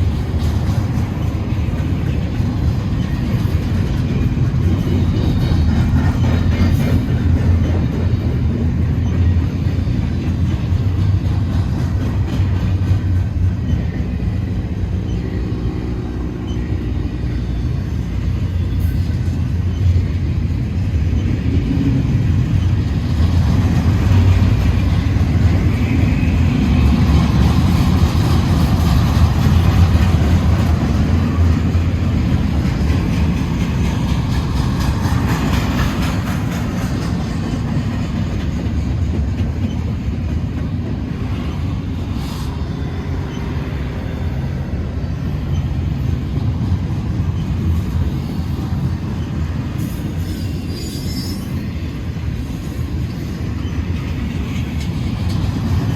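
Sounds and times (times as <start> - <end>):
freight train rumbling: 0.0 - 55.9.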